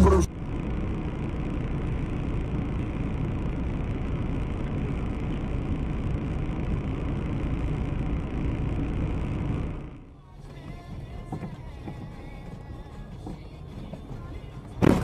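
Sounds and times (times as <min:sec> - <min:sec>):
car cabin rumble and hiss: 0:00.0 - 0:15.0.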